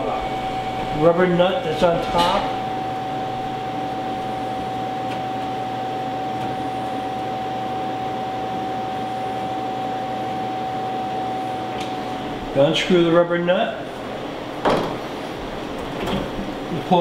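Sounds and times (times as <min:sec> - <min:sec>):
dishwasher draining hum: 0:00.0 - 0:17.0.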